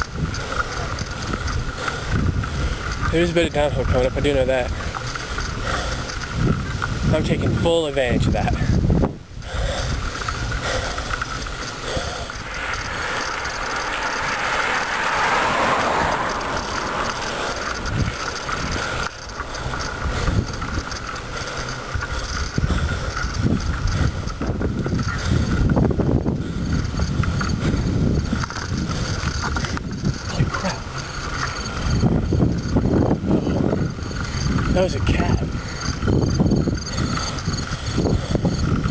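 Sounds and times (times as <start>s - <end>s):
bicycle tyre and wind rush: 0.0s - 38.9s
wind buffeting microphone: 0.0s - 38.9s.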